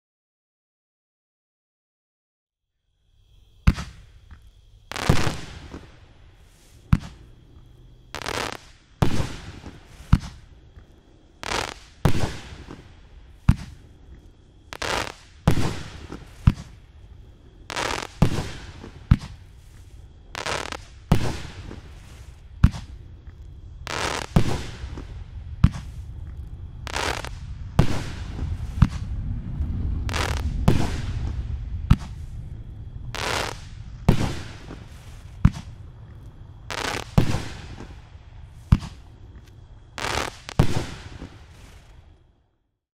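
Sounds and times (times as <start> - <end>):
firework rumbling crackle: 2.9 - 42.8
firework launch thumps: 3.6 - 6.0, 6.7 - 16.9, 17.7 - 38.0, 38.6 - 42.0.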